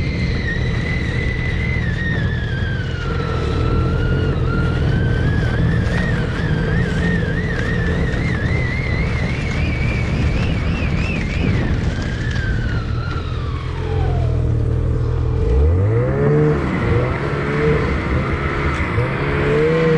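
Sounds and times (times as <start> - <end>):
snowmobile engine revving: 0.0 - 19.9.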